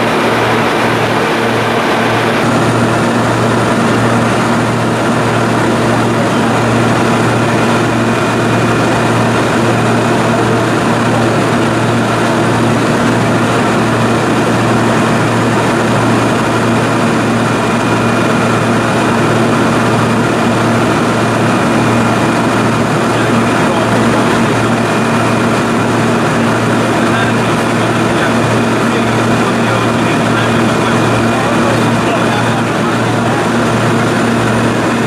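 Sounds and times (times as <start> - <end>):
propeller airplane engine drone: 0.0 - 35.0.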